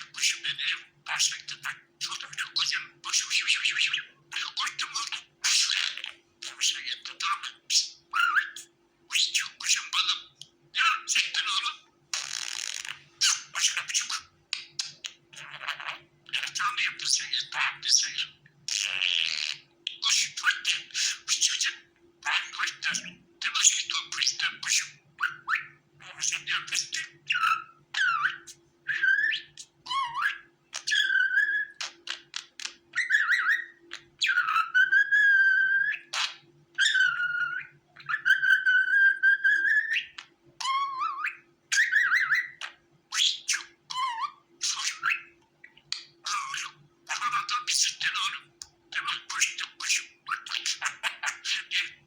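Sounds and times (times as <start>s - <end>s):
budgerigar chattering and warbling: 0.0s - 52.0s.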